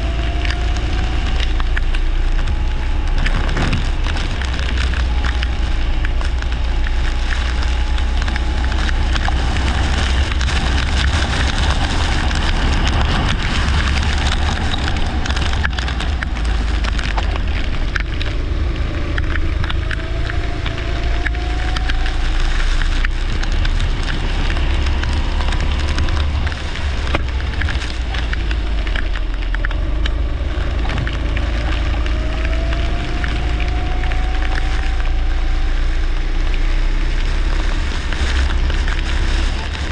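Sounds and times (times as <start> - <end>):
kart engine running: 0.0 - 35.8
dense rattling crackle: 0.0 - 39.9
low rumble: 0.0 - 39.9.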